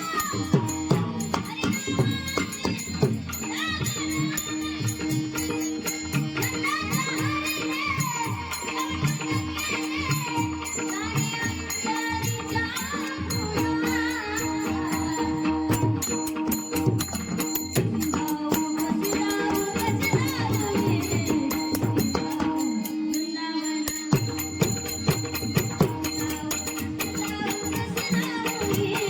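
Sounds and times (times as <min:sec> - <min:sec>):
jingling hand percussion: 0:00.0 - 0:29.0
woman singing: 0:00.0 - 0:29.0.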